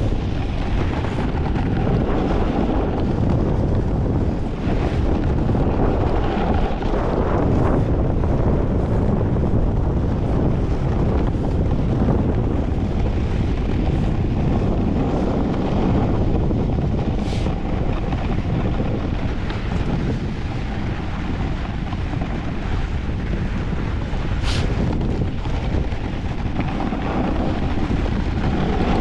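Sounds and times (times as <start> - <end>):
snowboard sliding over snow: 0.0 - 29.0
wind on microphone: 0.0 - 29.0.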